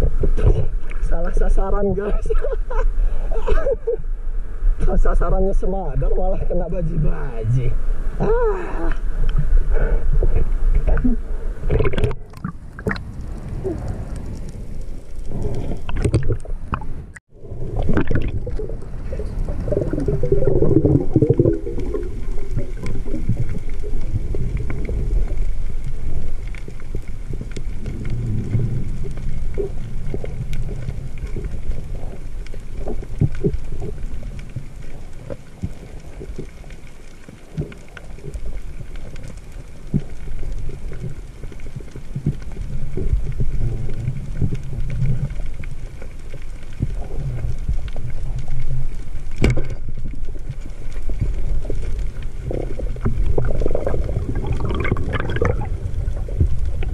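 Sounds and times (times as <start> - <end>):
underwater churning and bubbling: 0.0 - 56.9.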